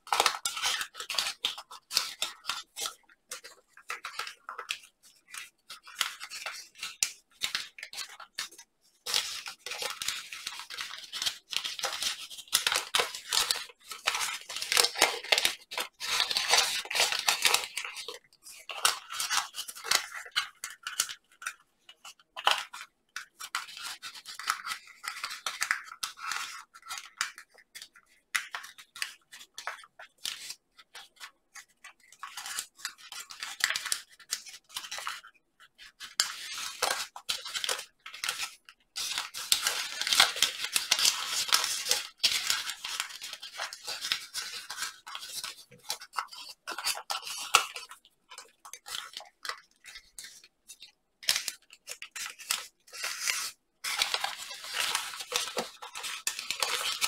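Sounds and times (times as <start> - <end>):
paper rustling and crinkling: 0.0 - 57.0.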